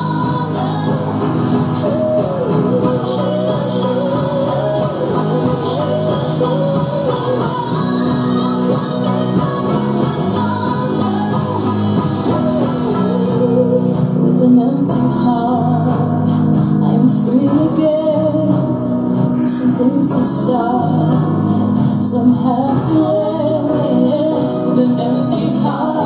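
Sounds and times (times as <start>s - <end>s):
pop song through speakers: 0.0s - 26.0s.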